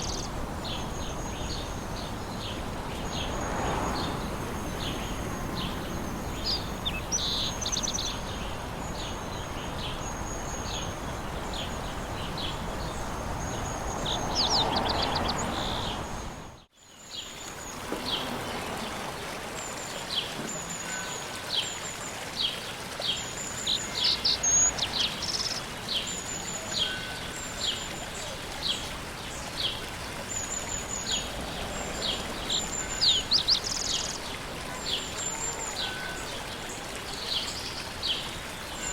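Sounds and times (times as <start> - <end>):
small birds chirping: 0.0 - 19.0, 20.0 - 38.9.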